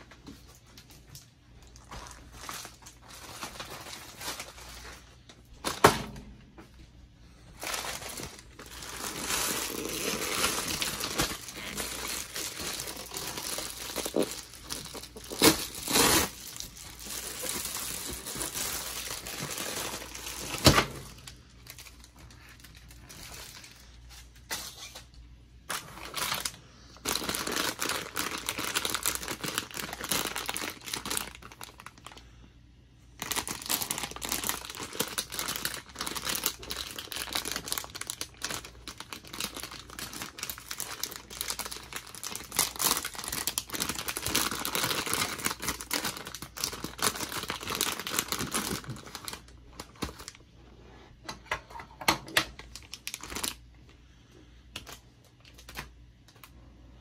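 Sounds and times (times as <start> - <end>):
plastic bag crinkling: 0.0 - 5.9, 7.2 - 32.3, 33.2 - 50.4, 52.5 - 53.6.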